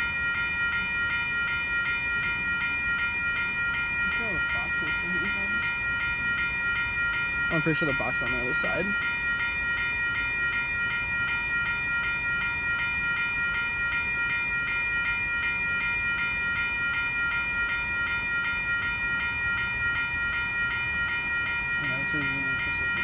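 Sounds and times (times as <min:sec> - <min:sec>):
crossing warning bell ringing: 0:00.0 - 0:23.0.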